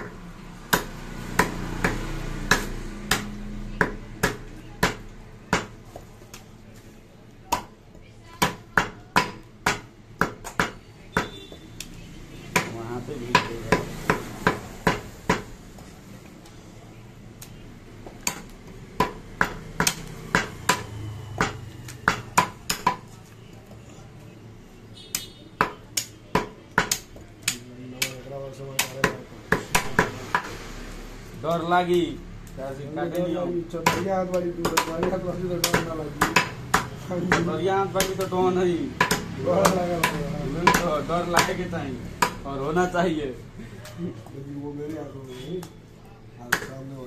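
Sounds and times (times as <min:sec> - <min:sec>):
cleavers chopping meat and bone: 0:00.0 - 0:06.6, 0:07.3 - 0:15.8, 0:17.3 - 0:23.8, 0:25.0 - 0:30.7, 0:31.5 - 0:43.2, 0:44.8 - 0:47.0.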